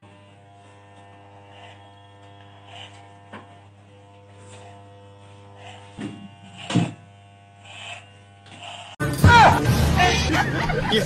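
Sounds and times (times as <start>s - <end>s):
electric hair clipper buzzing: 0.0s - 9.2s.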